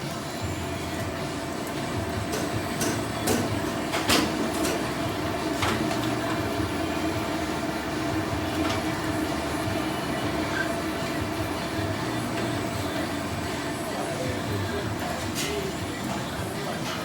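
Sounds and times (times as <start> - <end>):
mechanical equipment hum: 0.0 - 17.0.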